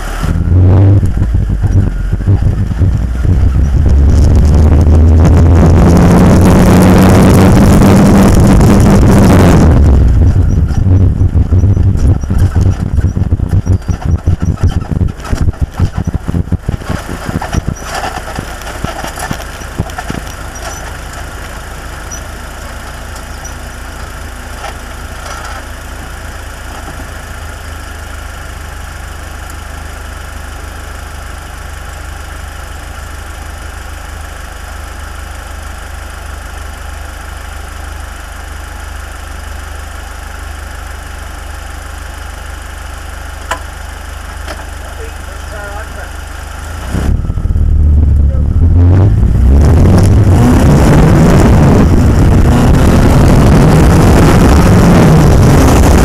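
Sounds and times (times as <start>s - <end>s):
race car engine idling: 0.0s - 56.0s.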